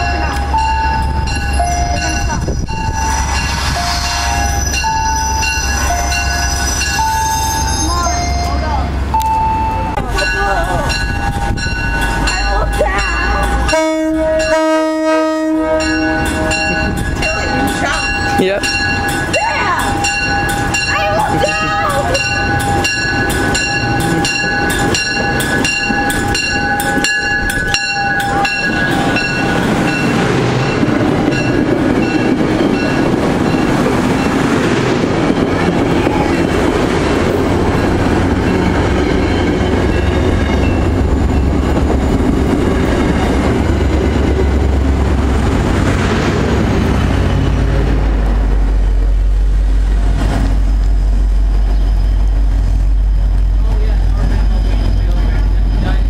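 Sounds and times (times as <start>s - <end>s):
train bell ringing: 0.0s - 45.2s
diesel locomotive engine: 0.0s - 56.0s
train wheels on rails: 0.0s - 56.0s.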